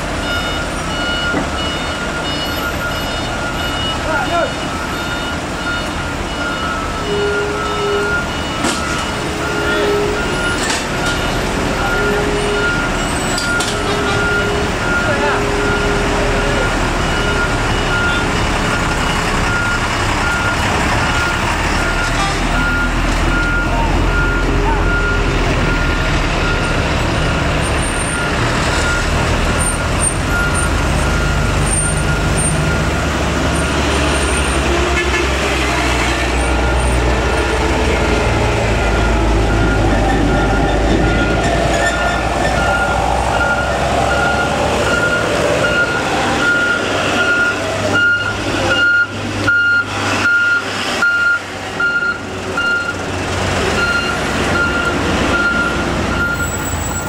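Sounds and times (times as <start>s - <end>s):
diesel truck engines rumbling: 0.0s - 57.0s
reversing alarm beeping: 0.2s - 34.6s, 38.1s - 53.0s, 53.8s - 57.0s.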